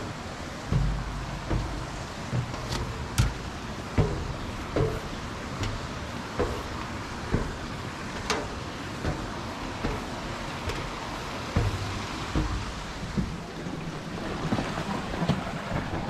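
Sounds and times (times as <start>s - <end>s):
footsteps down outdoor stairs: 0.0s - 16.0s
steady outdoor hiss: 0.0s - 16.0s.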